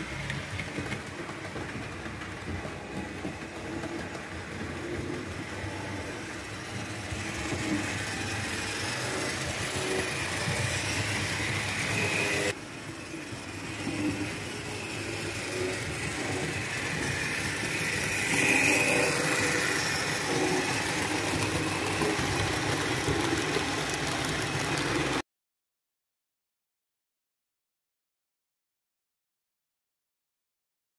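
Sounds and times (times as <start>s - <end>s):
model trains running on track: 0.0s - 25.2s.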